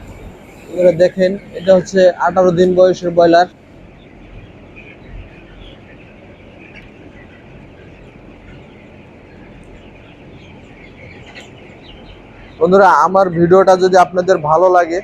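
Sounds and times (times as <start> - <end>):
chickens chirping and clucking: 0.0 - 15.0.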